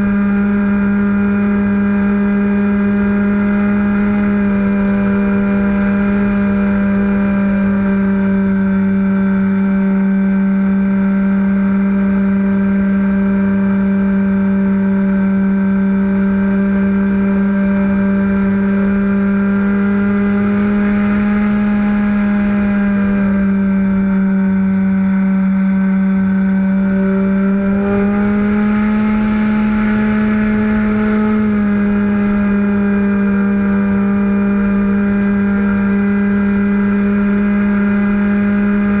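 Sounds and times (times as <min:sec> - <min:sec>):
model airplane motor humming: 0:00.0 - 0:39.0.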